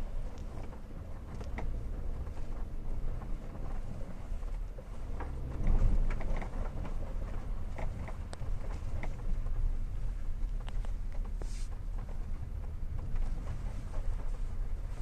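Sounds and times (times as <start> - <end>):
low road rumble: 0.0 - 15.0.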